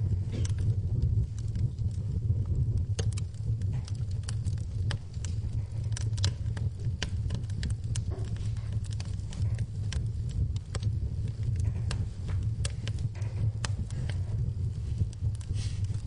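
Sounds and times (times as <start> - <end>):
fire snaps and pops: 0.0 - 16.0
low rumble: 0.0 - 16.0
wood fire crackling: 0.0 - 16.0.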